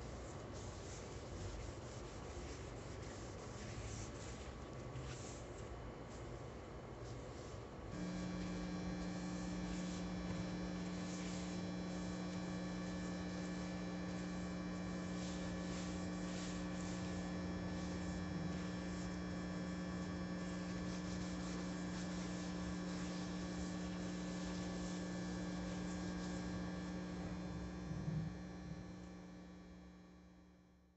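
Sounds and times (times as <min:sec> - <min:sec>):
cloth rubbing on wooden board: 0:00.0 - 0:06.4, 0:07.0 - 0:29.2
steady electrical hum: 0:00.0 - 0:30.9.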